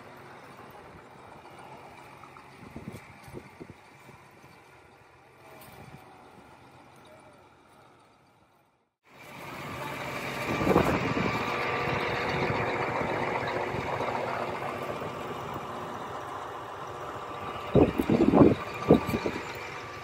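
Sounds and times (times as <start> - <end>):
large engine running steadily: 0.0 - 20.0.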